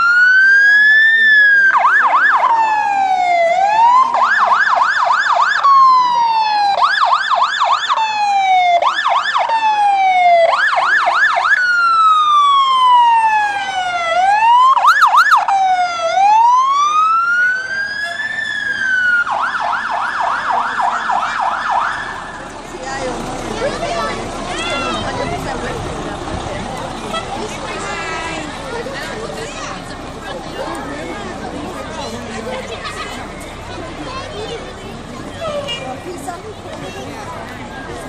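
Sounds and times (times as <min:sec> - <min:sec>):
fire engine siren wail and yelp: 0:00.0 - 0:38.0.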